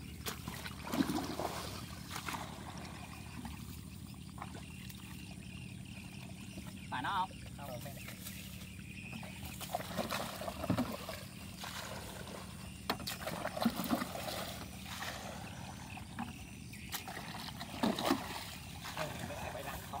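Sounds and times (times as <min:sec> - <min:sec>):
water sloshing and gurgling: 0:00.0 - 0:20.0.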